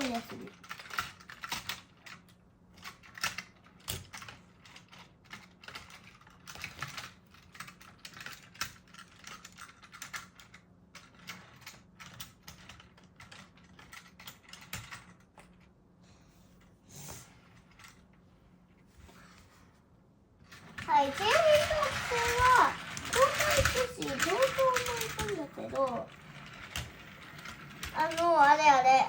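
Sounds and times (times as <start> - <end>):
plastic toy train pieces clattering: 0.0 - 15.2, 20.5 - 29.0.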